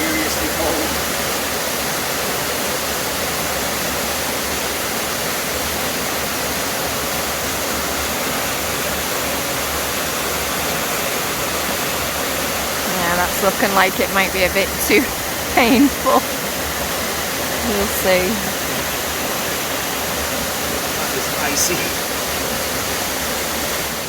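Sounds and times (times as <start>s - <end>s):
waterfall pouring into pool: 0.0s - 13.4s, 15.0s - 17.7s, 18.3s - 24.0s.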